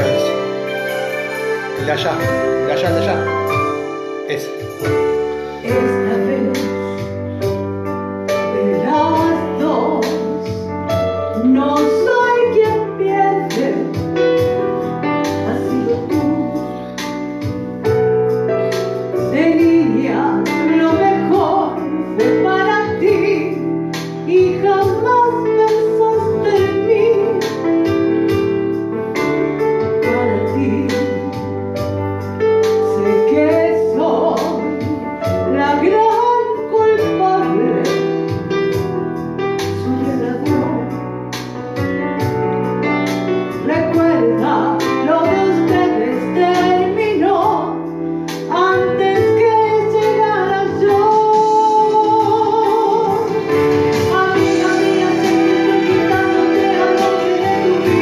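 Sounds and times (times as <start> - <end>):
instrumental backing music: 0.0 - 58.0
woman singing a ballad: 4.8 - 18.1, 18.7 - 38.9, 39.6 - 42.5, 43.5 - 58.0.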